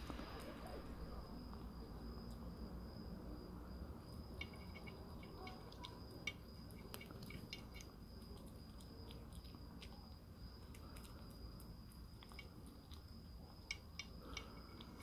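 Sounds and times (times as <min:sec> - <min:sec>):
kitten chewing and licking: 0:00.0 - 0:15.0
thin steady high tone: 0:00.0 - 0:15.0.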